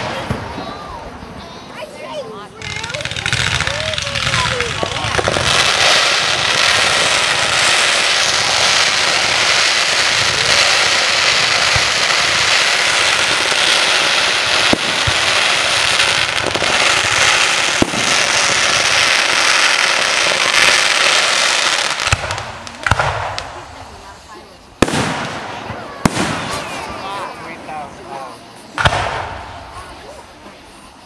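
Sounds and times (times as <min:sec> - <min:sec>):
fireworks bangs: 0:00.0 - 0:31.0
fireworks crackling: 0:00.0 - 0:31.0.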